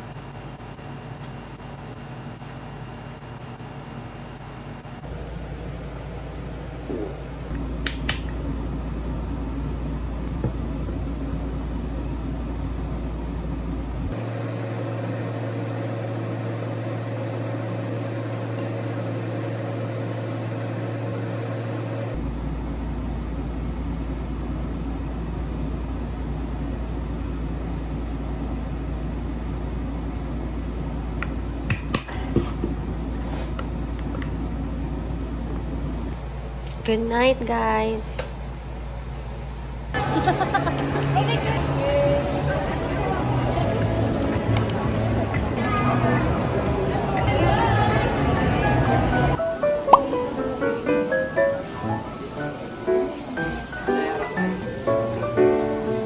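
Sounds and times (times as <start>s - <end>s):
low appliance hum: 0.0s - 56.0s.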